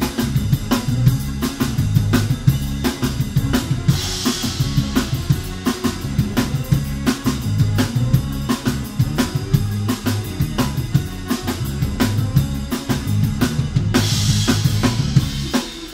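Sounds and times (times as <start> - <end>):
bass notes: 0.0 - 15.9.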